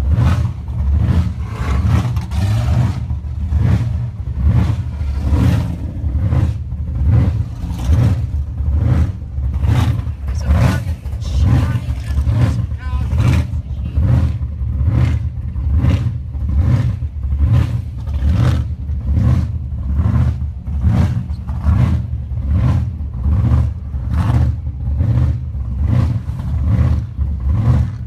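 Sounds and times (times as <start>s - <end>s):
engine rumbling with loping beat: 0.0s - 28.0s.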